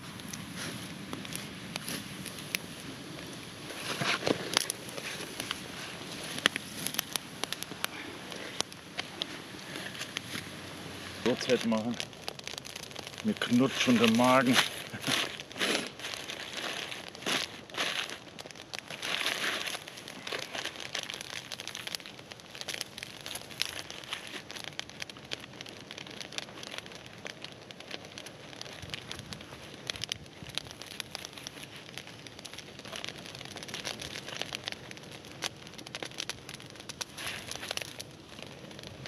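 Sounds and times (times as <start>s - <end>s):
campfire crackling: 0.0s - 39.0s
crinkling or rustling bursts: 0.0s - 39.0s.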